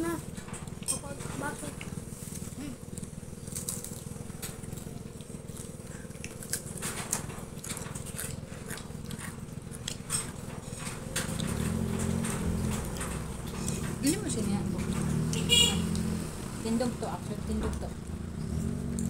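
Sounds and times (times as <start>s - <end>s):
children chewing and eating: 0.0s - 19.0s.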